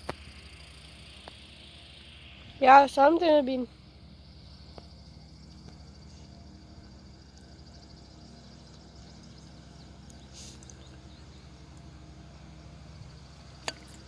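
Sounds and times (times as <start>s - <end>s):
faint high whine: 0.0s - 14.0s
low hum: 0.0s - 14.0s.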